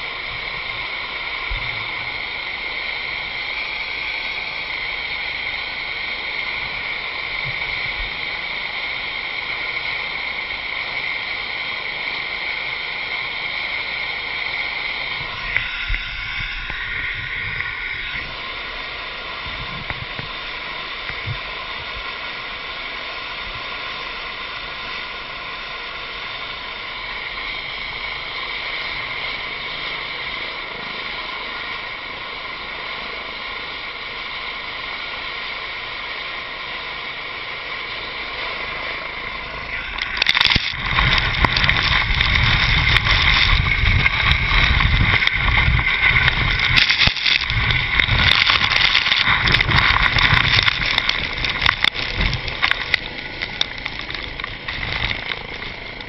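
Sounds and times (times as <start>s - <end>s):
helicopter turbine whine: 0.0s - 36.0s, 36.8s - 56.0s
rotor wash and blowing snow: 0.0s - 56.0s.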